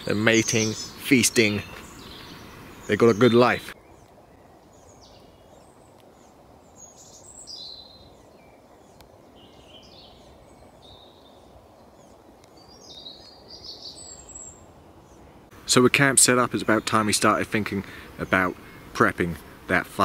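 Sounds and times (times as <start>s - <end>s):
birds chirping: 0.0s - 20.0s
faint low background noise: 0.0s - 20.0s.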